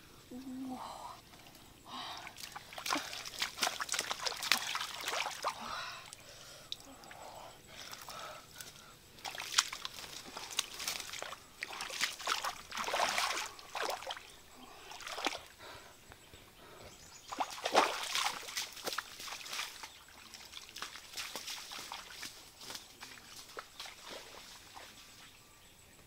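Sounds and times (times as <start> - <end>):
muddy water sloshing: 1.2 - 15.9, 16.6 - 25.3.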